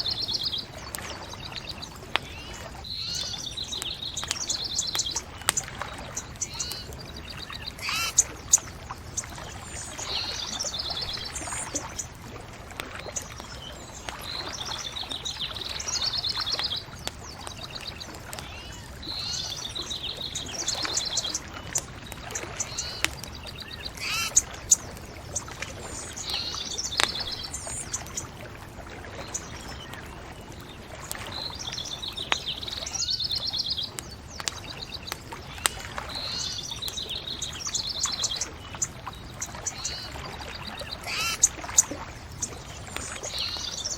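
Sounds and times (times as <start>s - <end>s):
songbirds singing trills: 0.0s - 43.9s.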